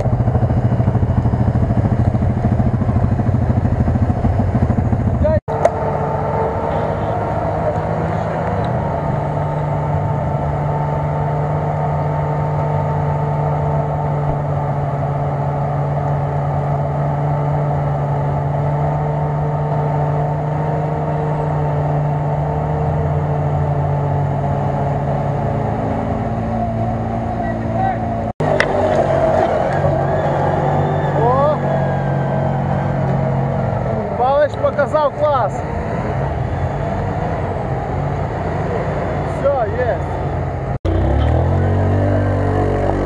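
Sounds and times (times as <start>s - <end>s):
engine droning under load: 0.0s - 43.0s.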